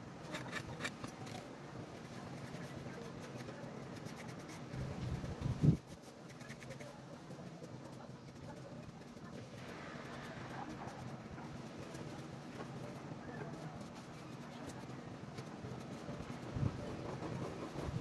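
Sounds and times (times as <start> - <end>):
pencil scratching on wood: 0.3 - 1.2, 2.0 - 18.0.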